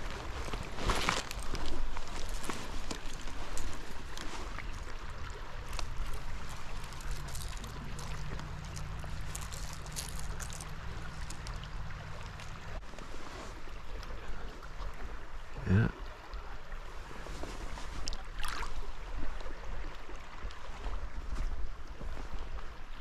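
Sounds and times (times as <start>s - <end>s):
creek water running: 0.0s - 23.0s.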